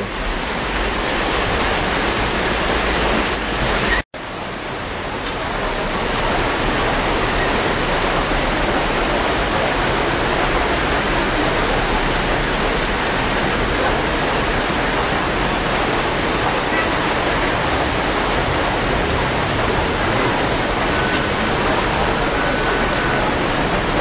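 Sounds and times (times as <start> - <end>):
floodwater flowing: 0.0 - 24.0
heavy rain hiss: 0.0 - 24.0.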